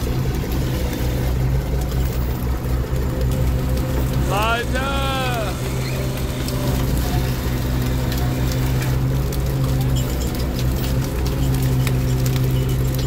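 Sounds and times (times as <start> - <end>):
engine and hydraulics humming: 0.0 - 13.0
water splashes: 0.0 - 13.0.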